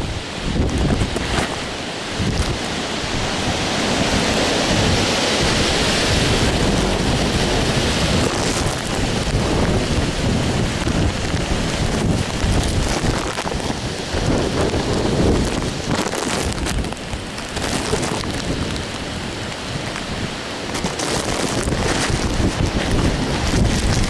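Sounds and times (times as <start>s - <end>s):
driving rain: 0.0s - 24.0s
wind gusting: 0.0s - 24.0s
wind rumbling on microphone: 0.0s - 24.0s.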